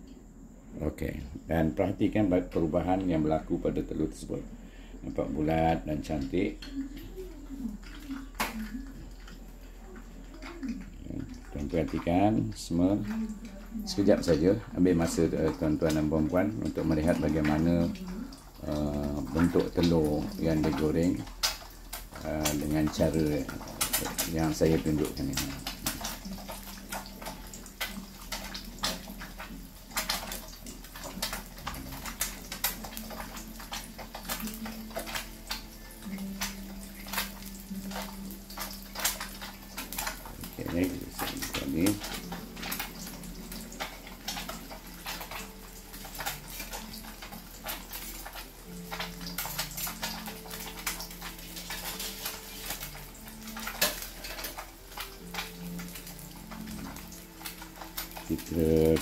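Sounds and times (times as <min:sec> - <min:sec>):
egg sizzling in oil: 0:02.2 - 0:59.0.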